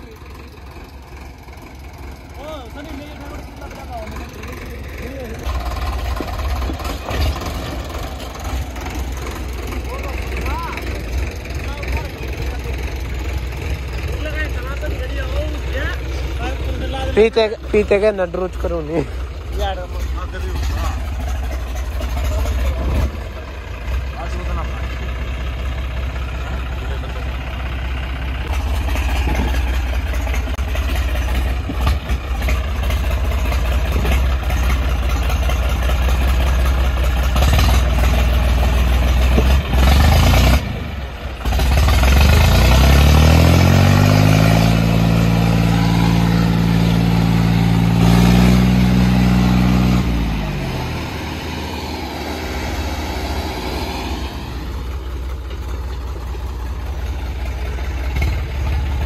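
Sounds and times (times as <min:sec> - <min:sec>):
diesel tractor engines running hard: 0:00.0 - 0:59.0
engine revving: 0:02.0 - 0:27.8, 0:28.4 - 0:55.7, 0:56.6 - 0:59.0.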